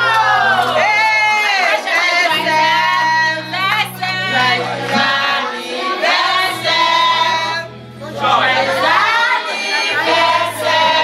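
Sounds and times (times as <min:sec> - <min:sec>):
women and children singing: 0:00.2 - 0:11.0.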